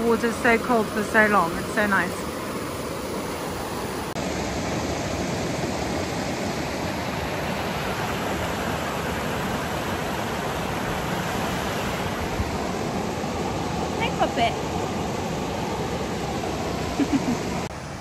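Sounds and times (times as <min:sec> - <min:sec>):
river water rushing over rocks: 0:00.3 - 0:18.0.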